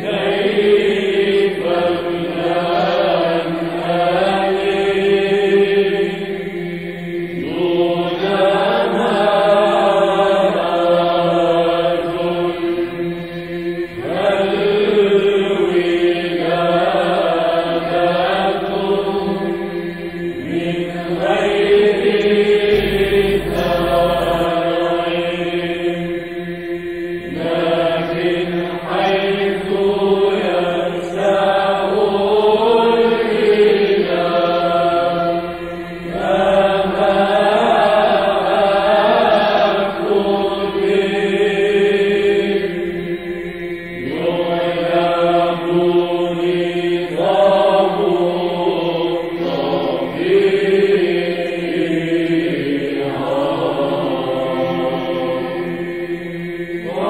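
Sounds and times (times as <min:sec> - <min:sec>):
held vocal drone: 0:00.0 - 0:57.0
voices singing chant: 0:00.0 - 0:57.0.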